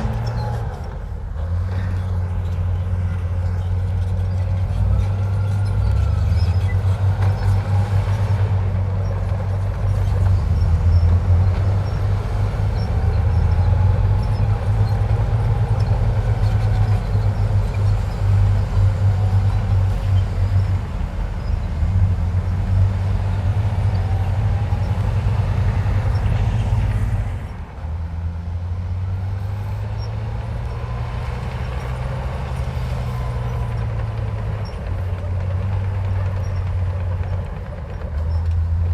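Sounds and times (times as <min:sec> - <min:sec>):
faint engine whine: 0:00.0 - 0:38.9
heavy diesel engine running: 0:00.0 - 0:38.9.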